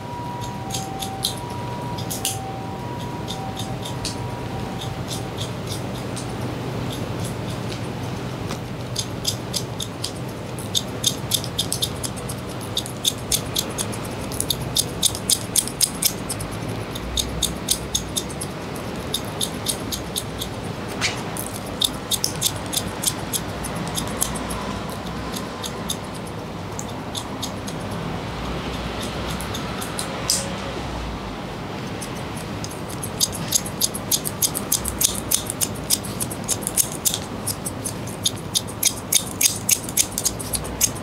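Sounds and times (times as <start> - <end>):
scissors snipping hair: 0.1 - 30.6, 31.8 - 41.0.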